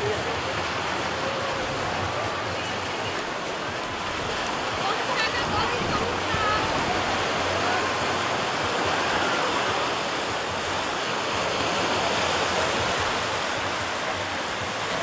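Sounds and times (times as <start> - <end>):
small waves washing on shore: 0.0 - 15.0.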